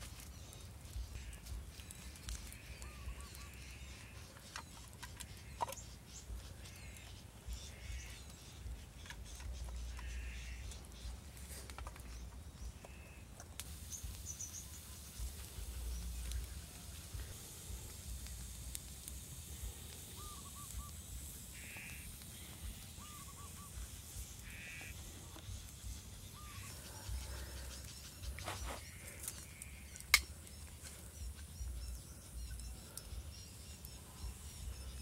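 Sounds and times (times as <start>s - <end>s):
birds calling: 0.1s - 35.0s.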